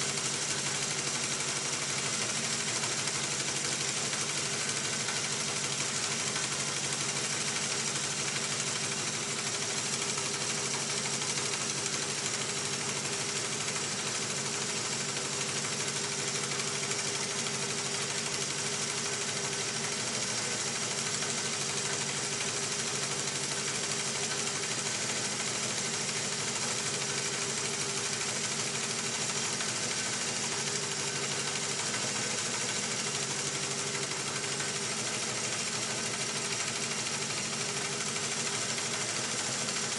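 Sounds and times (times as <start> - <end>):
motorcycle engine ticking: 0.0 - 39.9.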